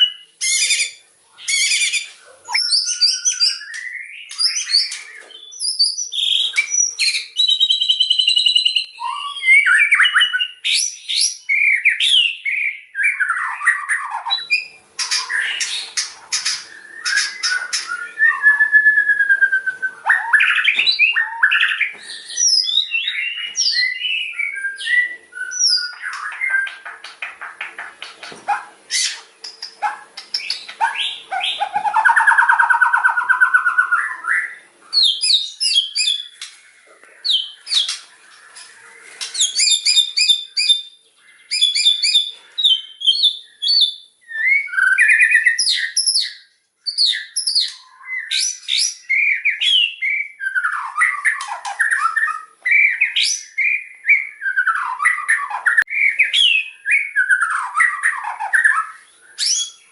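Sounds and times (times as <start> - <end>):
songbird singing with trills: 0.0 - 36.5, 37.2 - 59.9.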